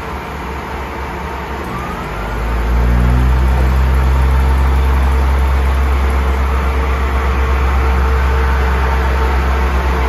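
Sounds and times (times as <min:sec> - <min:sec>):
diesel train engine drone: 0:00.0 - 0:10.0.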